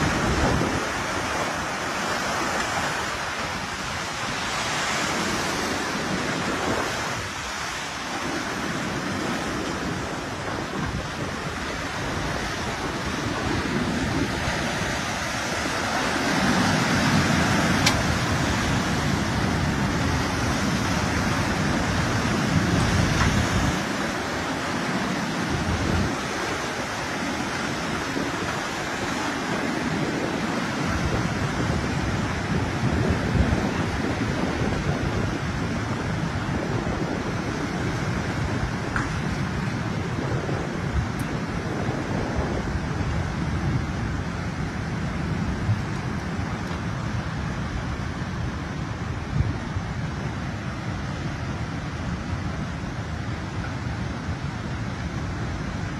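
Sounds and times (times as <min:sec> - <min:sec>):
turbulent water rushing: 0:00.0 - 0:55.9.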